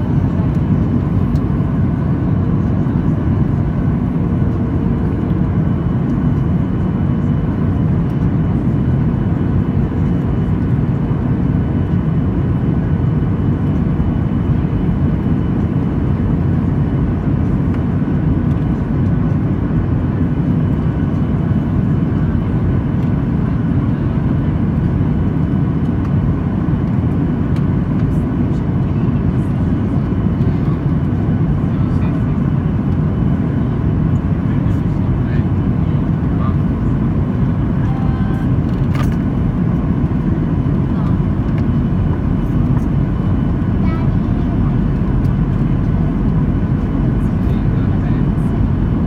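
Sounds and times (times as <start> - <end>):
faint steady whines: 0.0 - 49.0
jet engine roar in cabin: 0.0 - 49.0.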